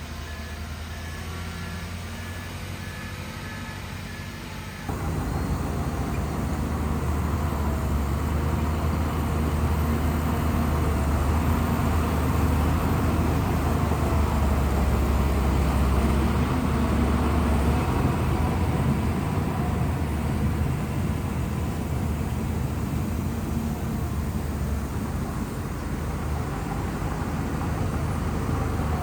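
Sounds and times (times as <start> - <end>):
bulldozer diesel engine droning: 0.0 - 29.0.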